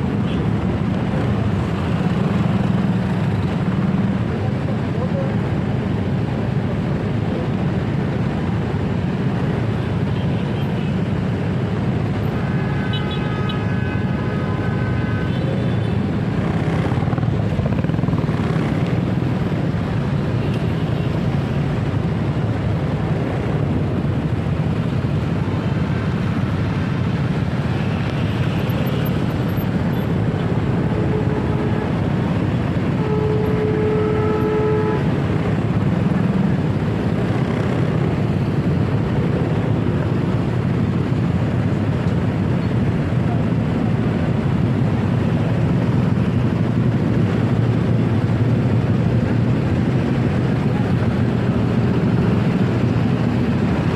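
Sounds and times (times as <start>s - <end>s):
motorcycle riding noise: 0.0s - 53.9s.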